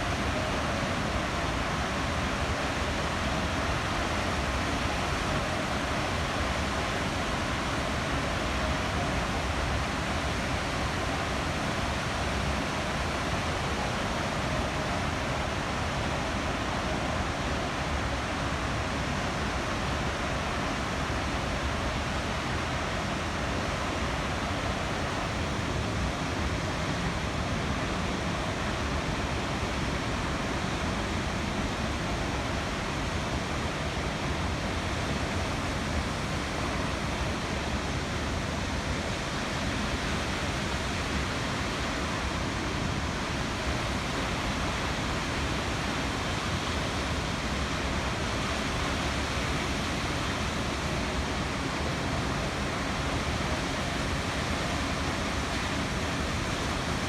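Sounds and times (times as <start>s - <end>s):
water rushing through a dam: 0.0s - 57.0s.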